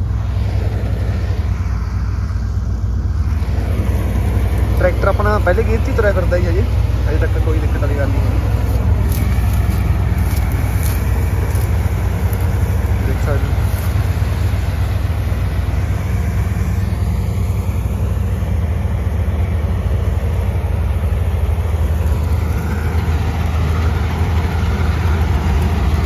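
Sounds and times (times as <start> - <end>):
combine harvester working: 0.0 - 26.0
tractor diesel engine running: 0.0 - 26.0.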